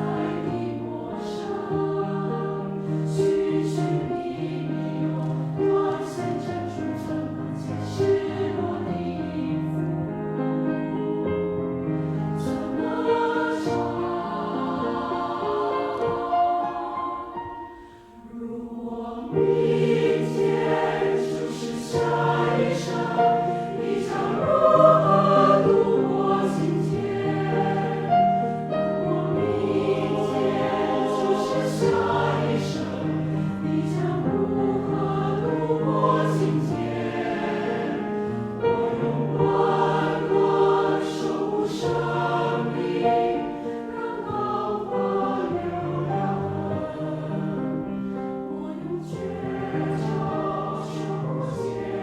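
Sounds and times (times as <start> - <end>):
choir singing: 0.0 - 52.0
piano accompaniment: 0.0 - 52.0.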